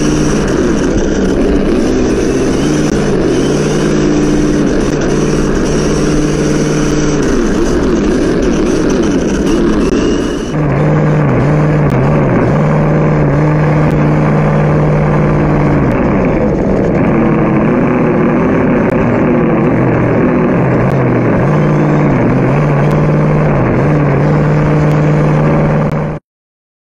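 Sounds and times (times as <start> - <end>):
engine-like drone: 0.0 - 26.2
rushing noise: 0.0 - 26.2.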